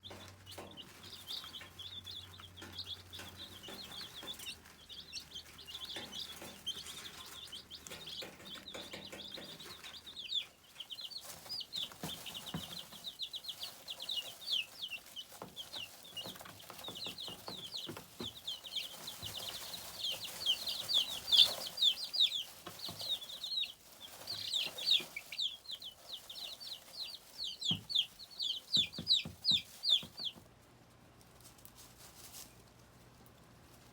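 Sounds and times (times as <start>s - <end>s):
chickens clucking and chirping: 0.0s - 33.9s.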